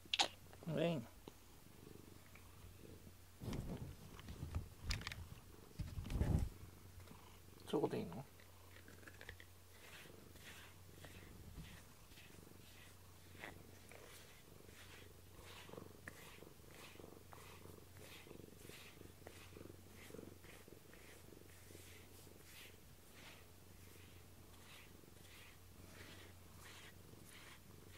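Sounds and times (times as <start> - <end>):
soft brush strokes: 0.6 - 27.9
cat purring: 1.7 - 27.9.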